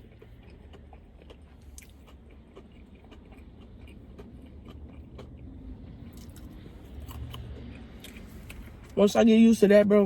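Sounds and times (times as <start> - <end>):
person chewing food: 0.0 - 9.0
low steady hum: 0.0 - 10.0.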